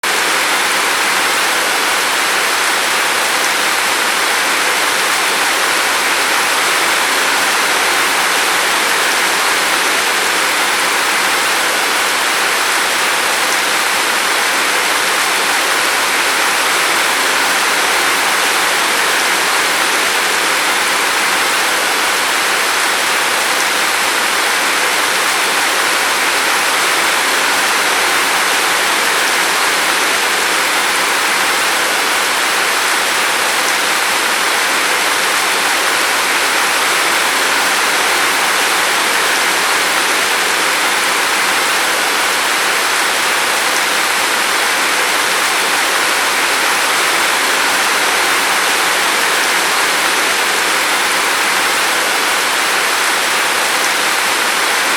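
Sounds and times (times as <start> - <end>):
steady rain hiss: 0.1 - 54.9.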